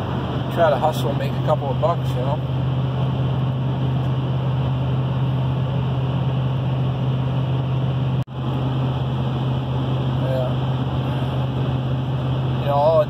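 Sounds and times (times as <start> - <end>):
truck engine drone: 0.0 - 13.0
tyre and road noise: 0.0 - 13.0.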